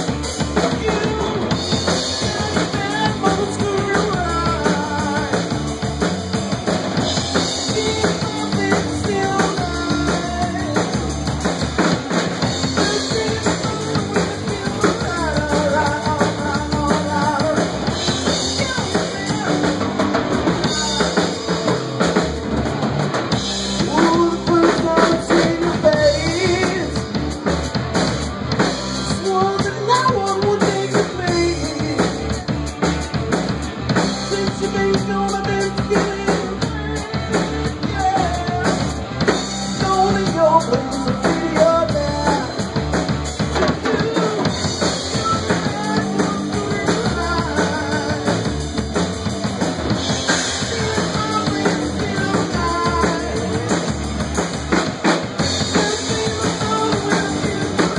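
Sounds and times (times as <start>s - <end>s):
drum kit beat: 0.0s - 57.9s
rock band playing live: 0.0s - 57.9s.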